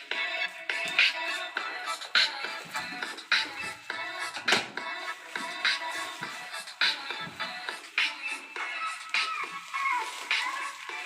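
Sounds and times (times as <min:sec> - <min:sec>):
background music with regular beat: 0:00.0 - 0:11.0.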